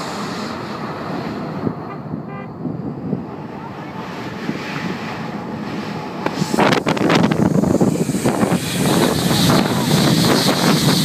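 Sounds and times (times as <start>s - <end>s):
jet engines running up: 0.0s - 11.0s
wind buffeting: 0.0s - 11.0s.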